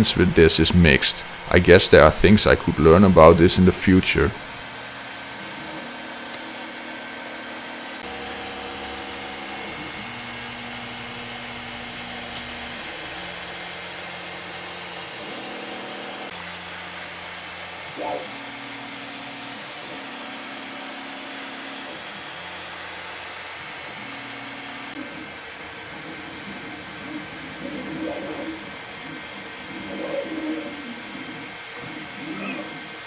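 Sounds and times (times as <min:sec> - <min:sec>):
cooling fans whirring: 0:00.0 - 0:33.0
stepper motors humming: 0:00.0 - 0:33.0.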